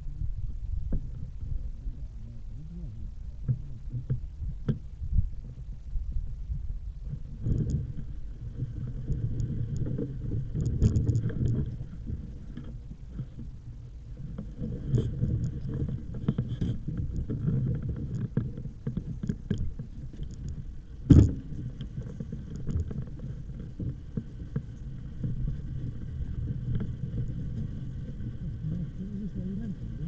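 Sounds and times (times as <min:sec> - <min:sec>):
wind rumble on microphone: 0:00.0 - 0:30.0
bike rolling noise: 0:04.0 - 0:30.0.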